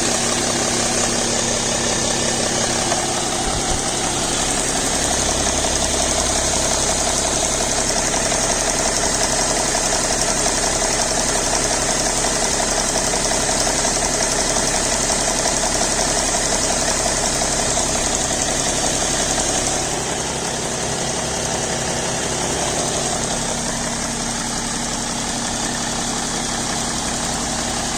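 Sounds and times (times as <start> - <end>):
diesel engine idling: 0.0 - 27.9
engine ticking: 0.0 - 27.9.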